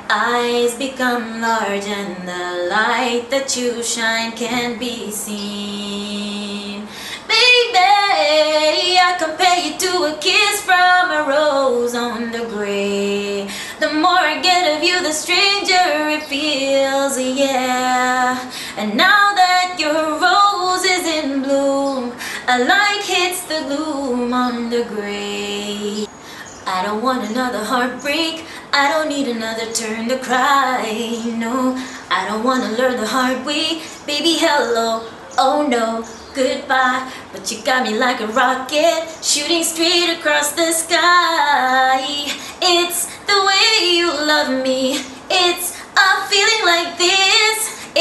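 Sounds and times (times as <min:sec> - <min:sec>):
woman singing unaccompanied: 0:00.0 - 0:48.0.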